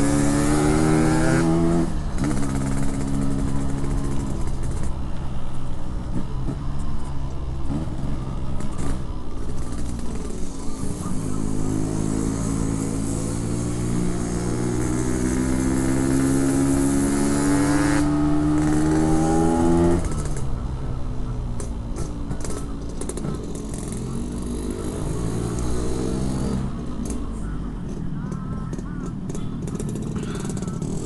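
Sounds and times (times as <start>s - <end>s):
two-stroke motorcycle engine revving: 0.0s - 5.1s, 7.6s - 21.2s, 22.0s - 27.2s, 28.2s - 31.0s.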